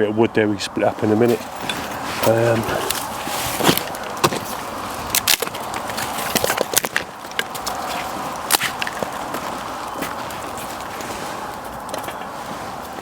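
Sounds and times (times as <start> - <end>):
wood fire crackling: 0.8 - 13.0.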